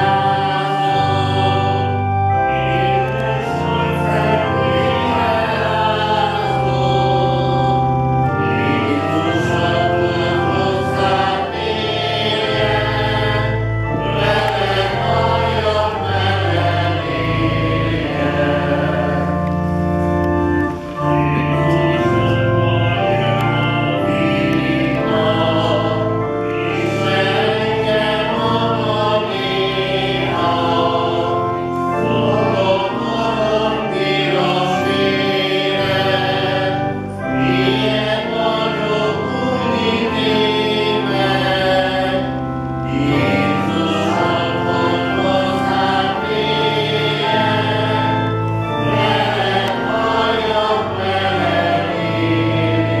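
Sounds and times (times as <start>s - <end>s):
organ accompaniment: 0.0s - 53.0s
voices singing a hymn: 0.0s - 53.0s.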